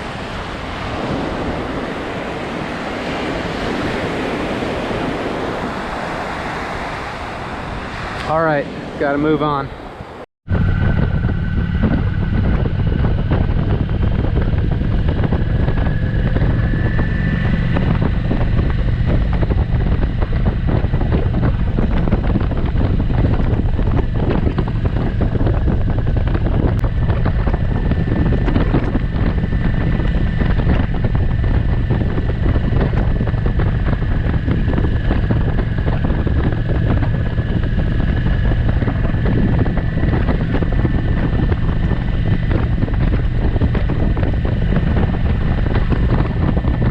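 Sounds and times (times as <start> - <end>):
motorcycle running: 0.0 - 46.9
thin whine: 0.0 - 46.9
wind noise on microphone: 0.0 - 46.9.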